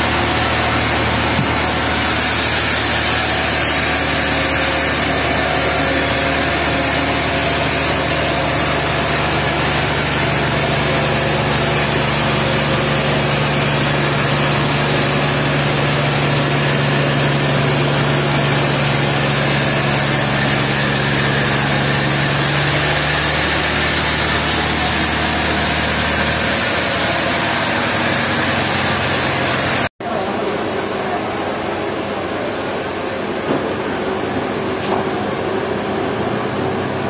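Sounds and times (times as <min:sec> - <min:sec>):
dense machinery noise: 0:00.0 - 0:37.0
engine hum: 0:00.0 - 0:37.0.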